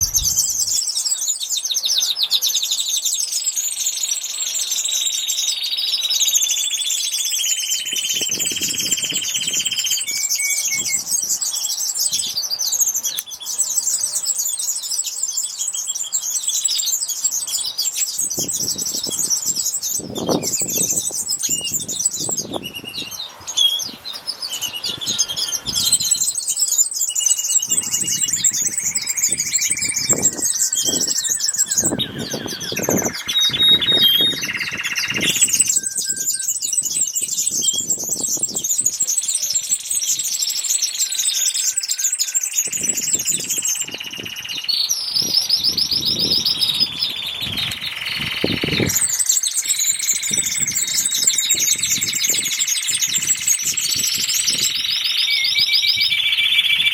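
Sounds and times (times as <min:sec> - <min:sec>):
small birds chirping chorus: 0:00.0 - 0:56.9
whistled bird notes: 0:00.0 - 0:56.9.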